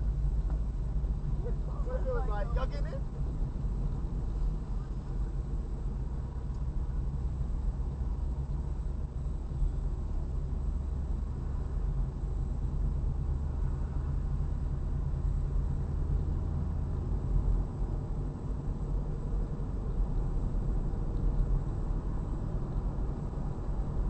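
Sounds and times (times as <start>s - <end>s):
car engine and tyre hum: 0.0s - 24.0s.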